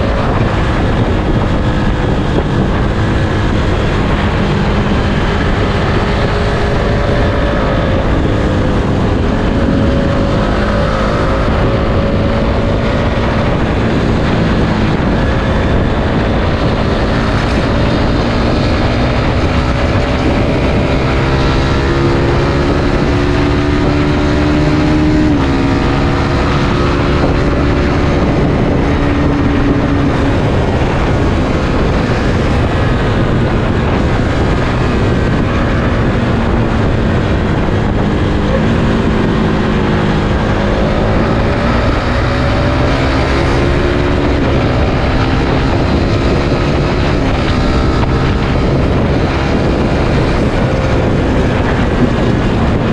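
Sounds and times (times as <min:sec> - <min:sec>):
motorcycle engine running: 0:00.0 - 0:52.9
wind and road rush: 0:00.0 - 0:52.9.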